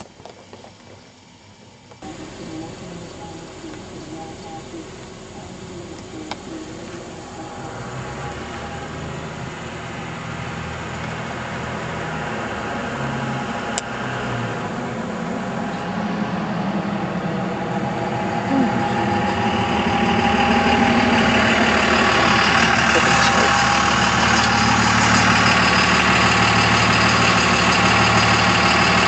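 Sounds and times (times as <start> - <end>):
pickup truck engine idling: 0.0 - 29.0.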